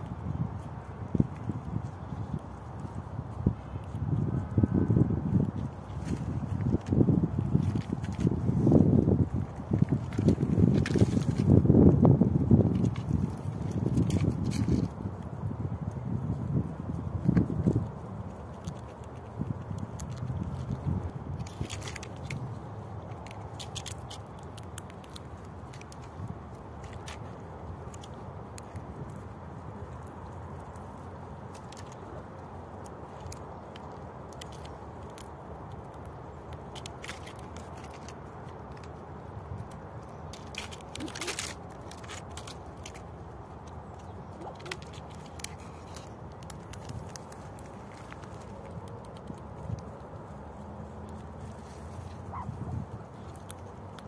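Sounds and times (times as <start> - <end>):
squirrel cracking seeds: 0.0 - 54.0.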